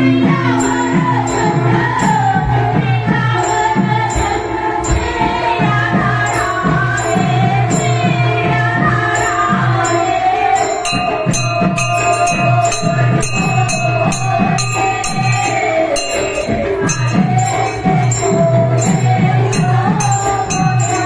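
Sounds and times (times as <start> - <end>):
drum strokes: 0.0 - 21.0
small cymbals jingling: 0.0 - 21.0.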